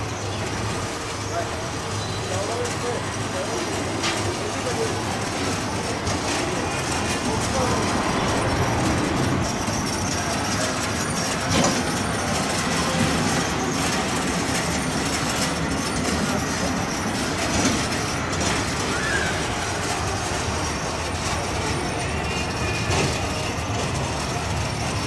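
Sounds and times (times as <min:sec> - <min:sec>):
ride car rolling on steel track: 0:00.0 - 0:25.0.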